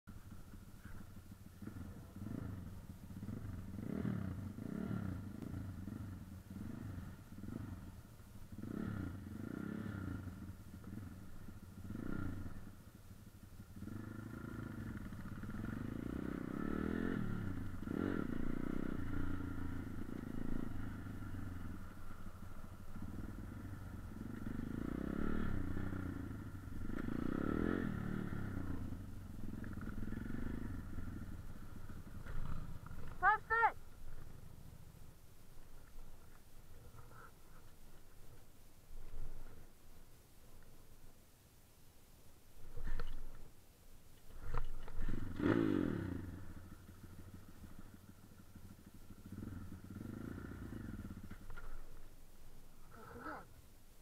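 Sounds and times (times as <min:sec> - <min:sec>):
motorcycle engines revving: 0:00.1 - 0:39.8, 0:44.2 - 0:53.7.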